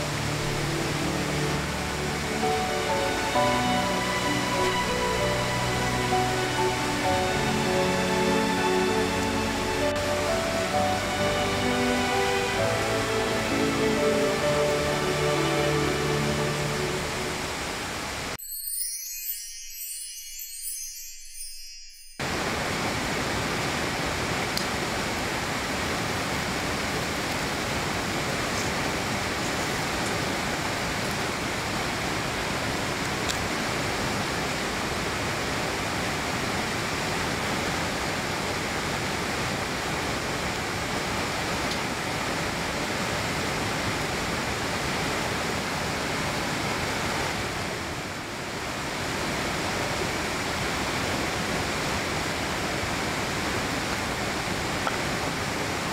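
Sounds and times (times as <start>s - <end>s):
river water rushing: 0.0s - 18.4s, 22.2s - 55.9s.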